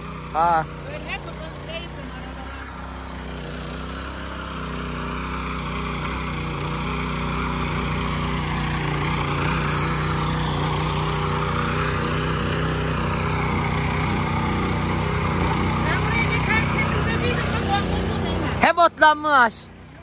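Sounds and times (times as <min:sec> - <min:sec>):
motor hoe engine running: 0:00.0 - 0:20.0
tines churning soil: 0:00.0 - 0:20.0.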